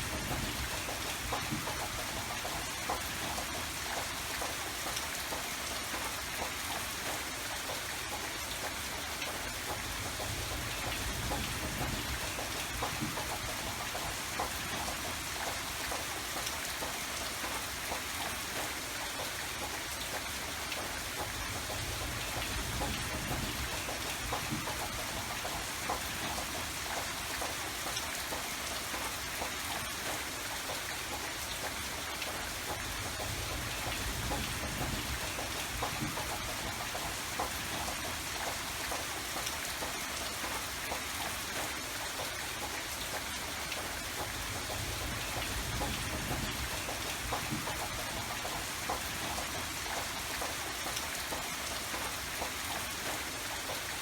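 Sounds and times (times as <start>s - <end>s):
raindrop ticks on surfaces: 0.0s - 54.0s
steady rain falling: 0.0s - 54.0s.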